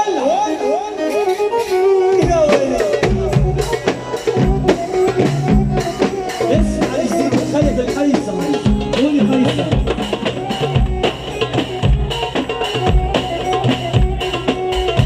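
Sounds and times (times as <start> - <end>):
lead melody with bending notes: 0.0 - 15.0
drum kit playing steady beat: 1.6 - 15.0.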